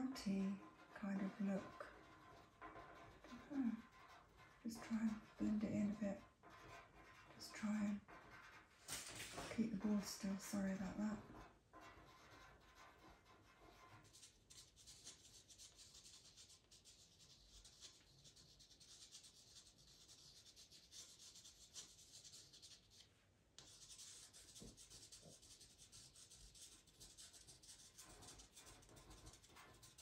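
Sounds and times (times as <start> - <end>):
pencil scratching on paper: 0.0 - 30.0.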